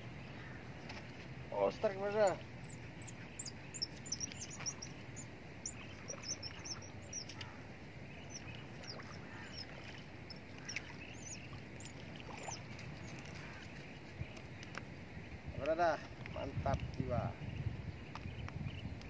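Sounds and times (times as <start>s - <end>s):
birds chirping: 0.0s - 19.0s
low outdoor hum: 0.0s - 19.0s.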